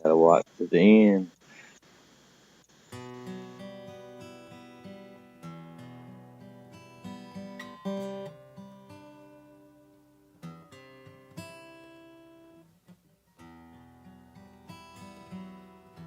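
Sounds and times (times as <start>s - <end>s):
acoustic guitar strumming: 2.9s - 16.0s.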